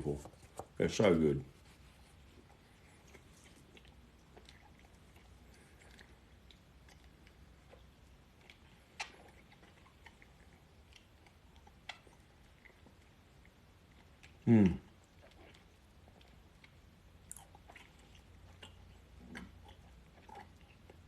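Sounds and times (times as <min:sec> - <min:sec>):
wet mouth clicks from chewing: 0:03.0 - 0:21.0.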